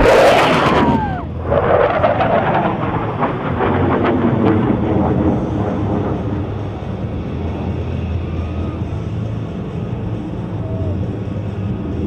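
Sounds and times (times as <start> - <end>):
crackling jet engine rumble: 0.0 - 12.0
jet flying past: 0.0 - 12.0.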